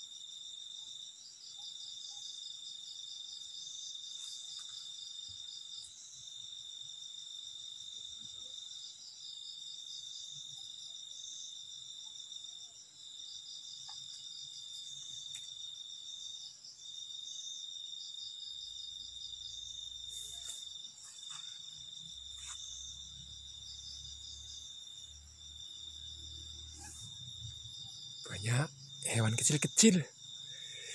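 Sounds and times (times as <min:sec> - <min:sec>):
fast pulsing insect call: 0:00.0 - 0:30.9
night insects trilling: 0:00.0 - 0:30.9.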